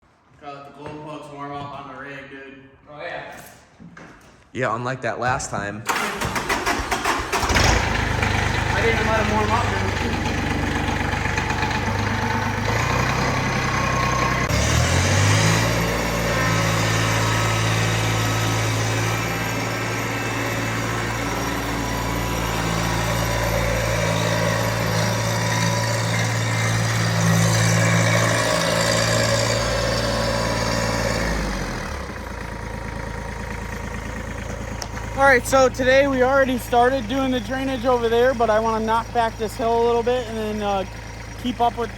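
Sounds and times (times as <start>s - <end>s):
small tractor engine running: 5.9s - 41.9s.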